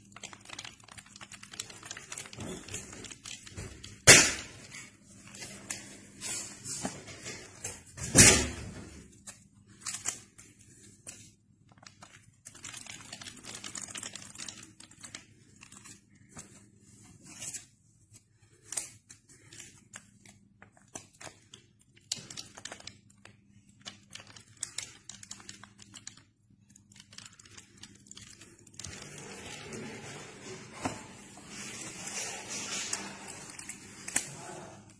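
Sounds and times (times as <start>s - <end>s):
paper banknotes rustling: 0.0s - 8.4s, 9.1s - 34.5s.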